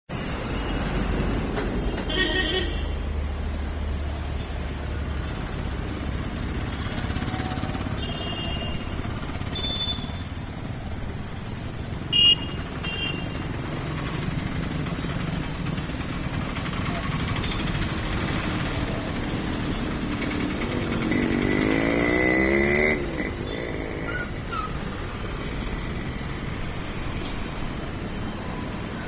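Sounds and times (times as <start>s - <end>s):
street traffic passing: 0.1s - 29.0s.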